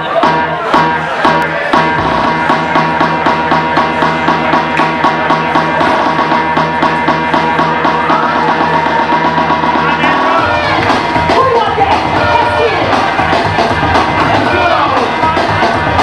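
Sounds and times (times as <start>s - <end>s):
loud music with steady beat: 0.0s - 16.0s.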